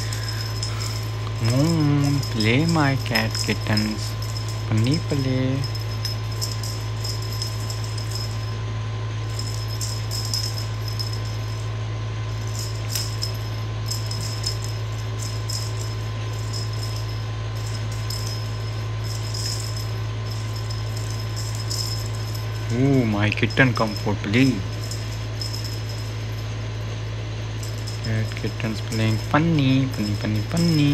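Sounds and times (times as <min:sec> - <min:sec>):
cat toy jingling and rattling: 0:00.0 - 0:30.9
low hum: 0:00.0 - 0:30.9.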